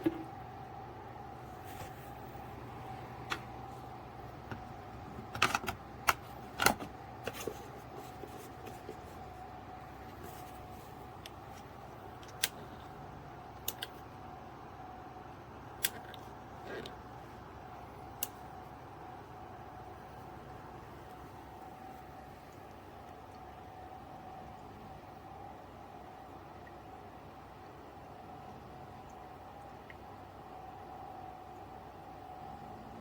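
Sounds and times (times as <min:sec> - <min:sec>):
humidifier humming: 0:00.0 - 0:33.0.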